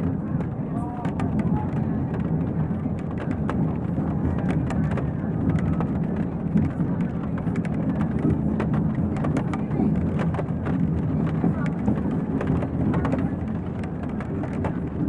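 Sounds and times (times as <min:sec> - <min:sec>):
murmur of conversation: 0:00.0 - 0:15.0
train rumble: 0:00.0 - 0:15.0
rain ticking on window: 0:00.4 - 0:15.0.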